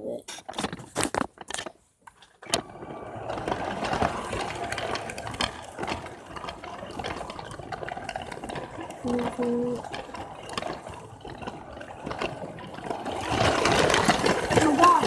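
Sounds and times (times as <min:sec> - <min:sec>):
toy train wheels clattering: 0:00.5 - 0:15.0.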